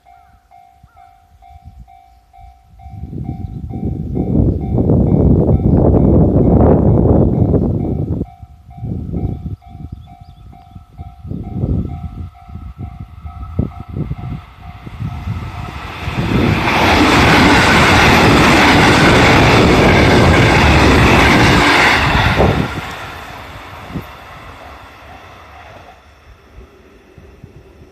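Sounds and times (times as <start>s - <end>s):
electric train passing: 0.0s - 27.9s.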